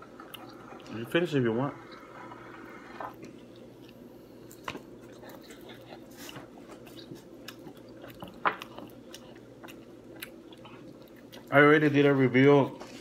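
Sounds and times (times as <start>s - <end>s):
person chewing food: 0.0s - 1.1s, 1.7s - 11.6s
steady low hum: 0.0s - 13.0s.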